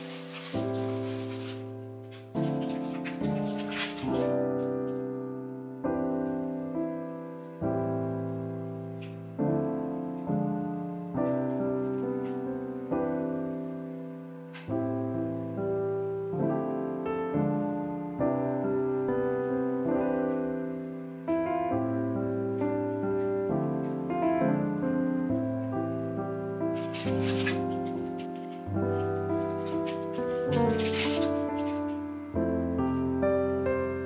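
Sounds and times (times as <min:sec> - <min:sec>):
solo piano chords: 0:00.0 - 0:34.0.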